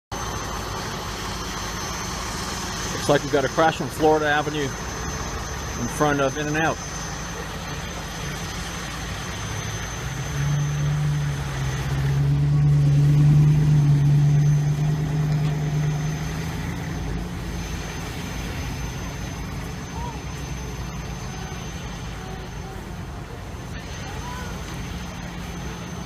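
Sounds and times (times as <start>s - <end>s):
vehicle engine passing: 2.1s - 26.0s.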